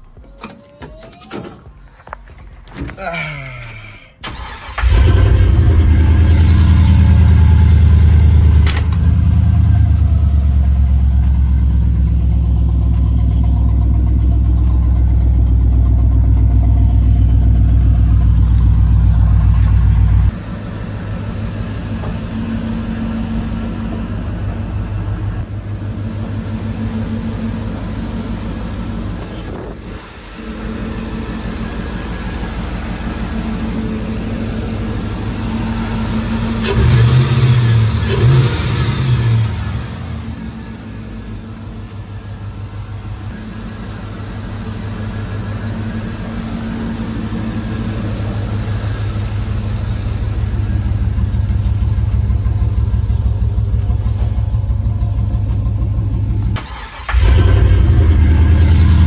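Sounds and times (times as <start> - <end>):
car engine exhaust: 1.7 - 59.0.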